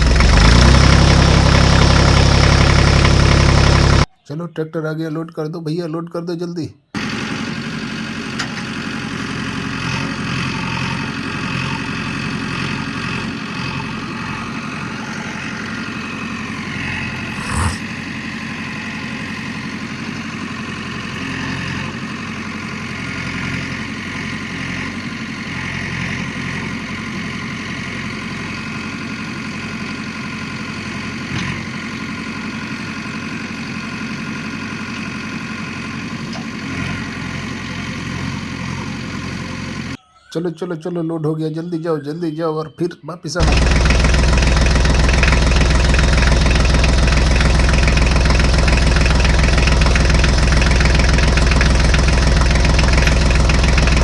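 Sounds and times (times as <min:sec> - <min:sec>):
engine idling: 0:00.0 - 0:04.1, 0:06.9 - 0:40.0, 0:43.4 - 0:54.0.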